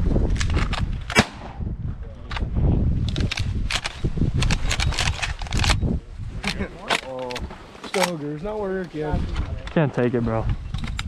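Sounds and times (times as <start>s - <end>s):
wind rumbling on microphone: 0.0s - 7.7s, 8.3s - 11.0s.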